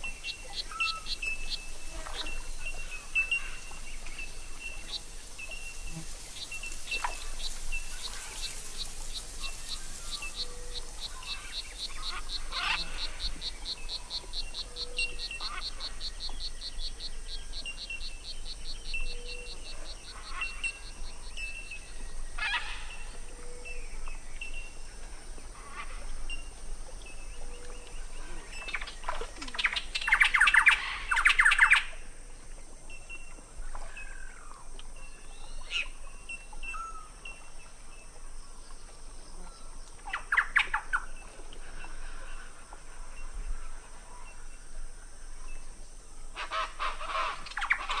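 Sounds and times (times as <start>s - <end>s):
steady high hiss: 0.0s - 48.0s.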